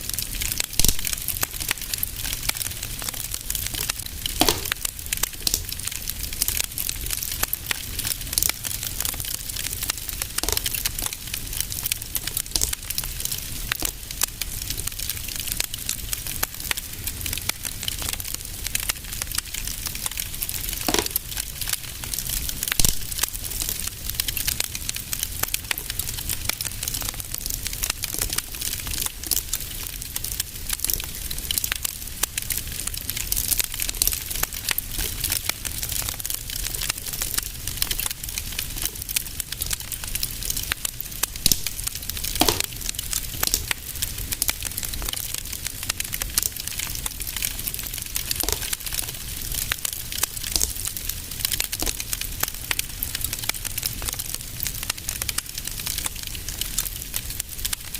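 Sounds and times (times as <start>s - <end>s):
fire crackling and popping: 0.0s - 57.9s.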